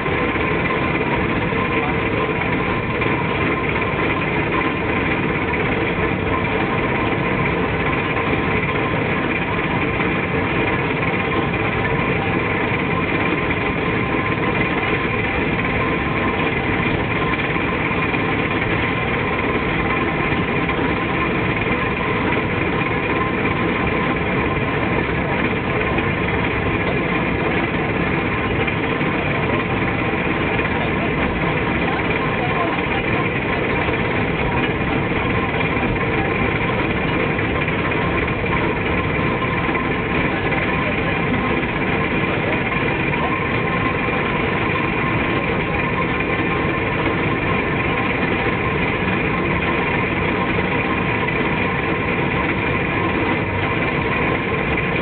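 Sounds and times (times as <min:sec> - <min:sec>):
diesel locomotive engine idling: 0:00.0 - 0:55.0.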